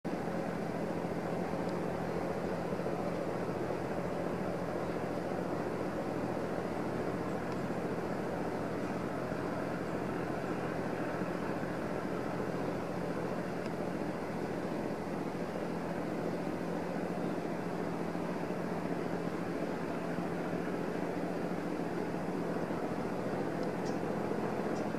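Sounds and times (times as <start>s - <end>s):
distant engines droning: 0.1s - 24.9s.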